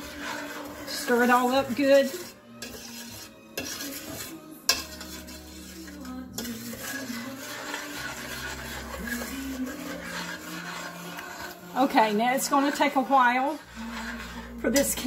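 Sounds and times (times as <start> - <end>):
spoon scraping and clinking pot: 0.0 - 15.0.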